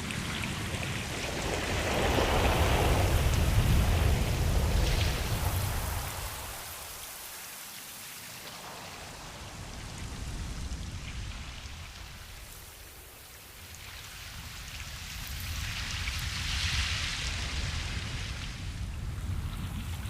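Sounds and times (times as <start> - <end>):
ocean waves washing on shore: 0.0 - 20.0.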